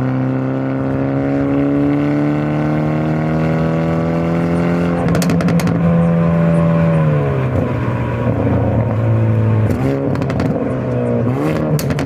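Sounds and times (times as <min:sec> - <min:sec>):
car engine and exhaust running: 0:00.0 - 0:12.0.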